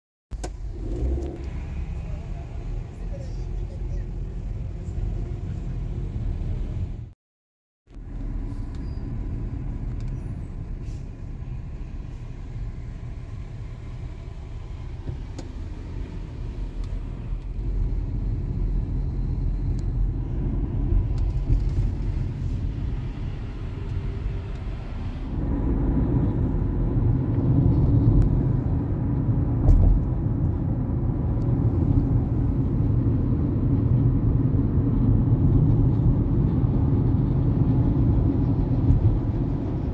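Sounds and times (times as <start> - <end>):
road vehicles rumbling: 0.3 - 7.2, 7.9 - 39.9.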